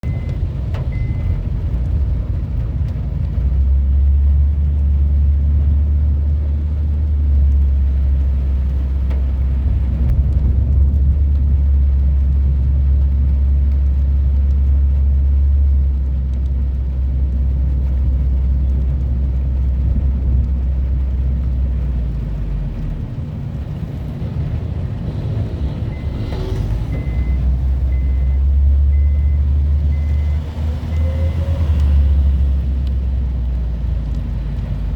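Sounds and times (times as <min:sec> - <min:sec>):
rainstorm rumble: 0:00.0 - 0:34.9.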